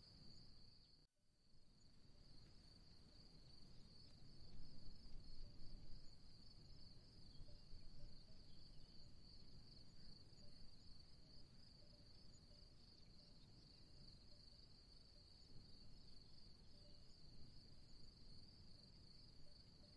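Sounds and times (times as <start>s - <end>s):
crickets trilling: 2.3s - 19.9s.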